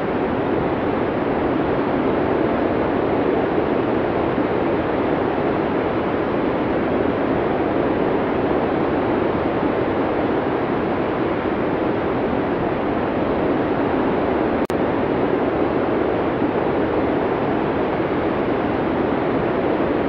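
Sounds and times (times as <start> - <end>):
blizzard wind rushing: 0.0 - 20.0.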